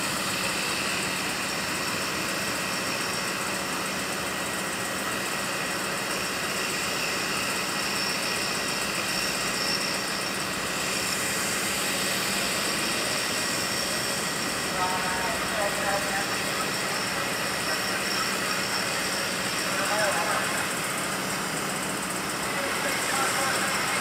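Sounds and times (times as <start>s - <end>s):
track maintenance machinery running: 0.0s - 24.0s.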